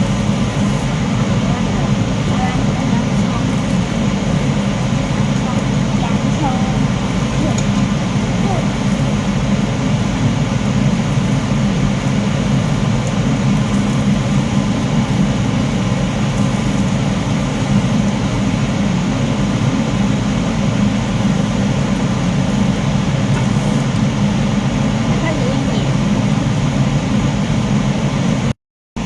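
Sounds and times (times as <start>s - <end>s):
loud low drone: 0.0s - 28.5s.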